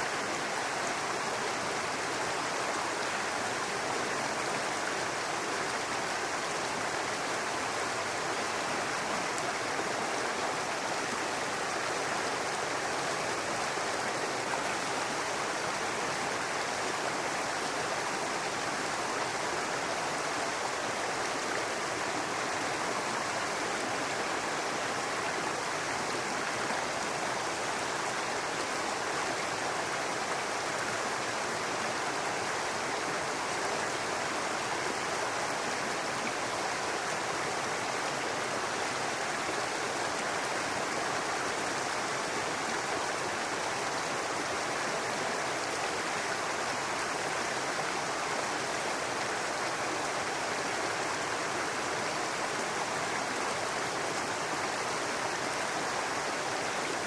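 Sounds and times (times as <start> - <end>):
brook water babbling over rocks: 0.0 - 57.0.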